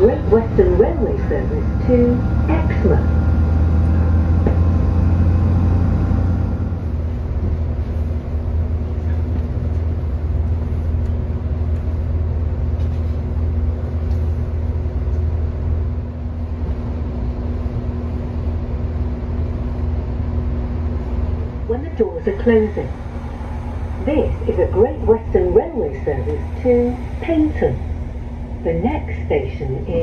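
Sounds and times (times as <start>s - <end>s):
steady hum: 0.0s - 30.0s
train engine and wheels rumbling: 0.0s - 30.0s.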